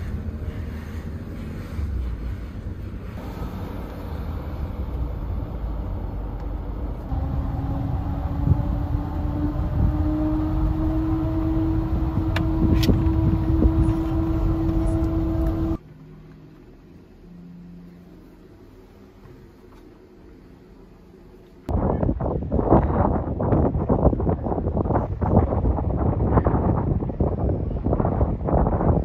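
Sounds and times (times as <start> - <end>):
road and engine rumble: 0.0 - 29.0.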